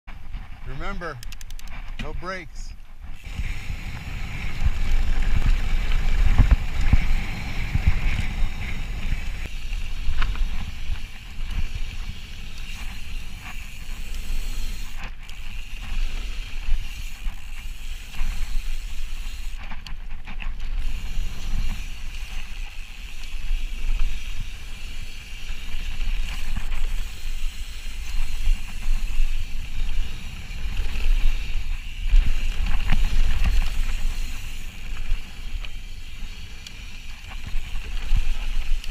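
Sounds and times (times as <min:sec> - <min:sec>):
bike tyres rolling on dirt: 0:00.1 - 0:38.9
wind buffeting microphone: 0:03.0 - 0:38.9.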